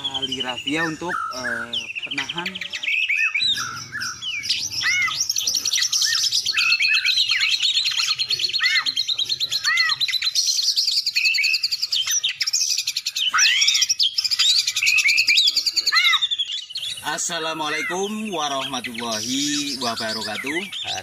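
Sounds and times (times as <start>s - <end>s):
birds chirping: 0.0s - 21.0s
high bird trill: 0.0s - 21.0s.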